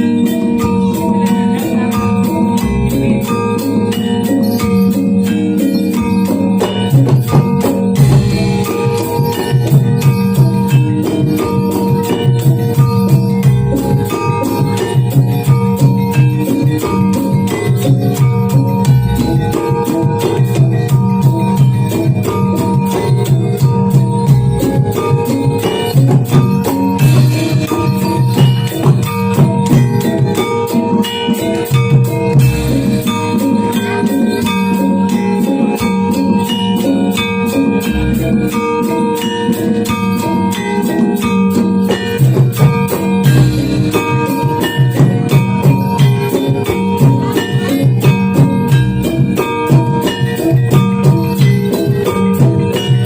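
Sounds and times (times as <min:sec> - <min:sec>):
gamelan metal instruments ringing: 0:00.0 - 0:53.0
low drum pattern: 0:00.0 - 0:53.0.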